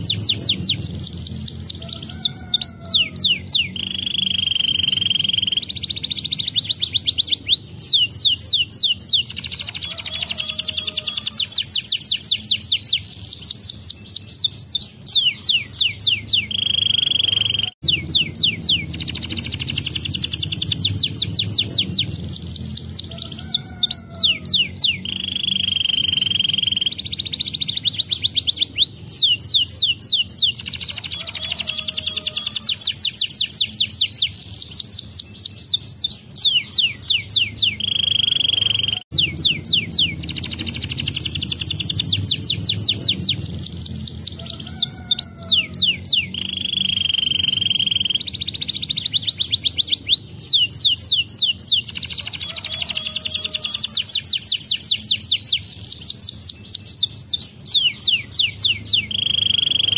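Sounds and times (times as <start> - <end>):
canary trilling song: 0.0 - 59.9.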